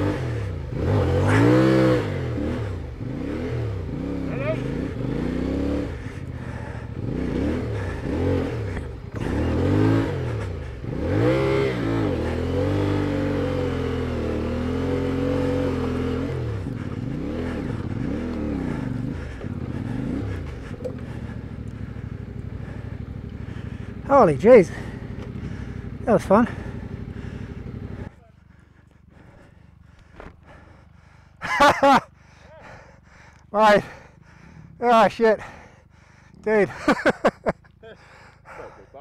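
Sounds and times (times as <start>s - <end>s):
motorcycle engine revving: 0.0s - 38.8s.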